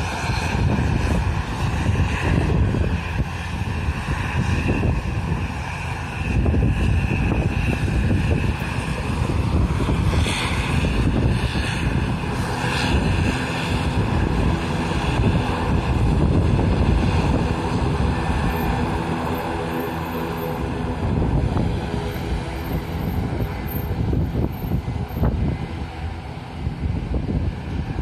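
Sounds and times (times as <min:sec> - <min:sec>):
airliner engines rumbling: 0:00.0 - 0:28.0
wind buffeting microphone: 0:00.0 - 0:28.0.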